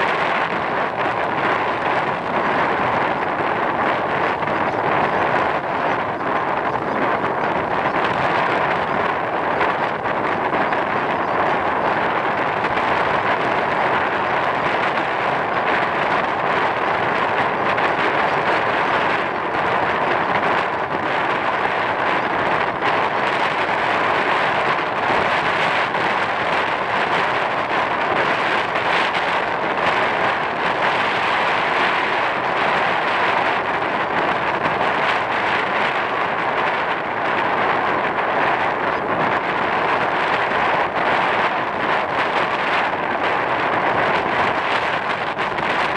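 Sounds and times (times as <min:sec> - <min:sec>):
surf: 0:00.0 - 0:45.9
wind: 0:00.0 - 0:45.9.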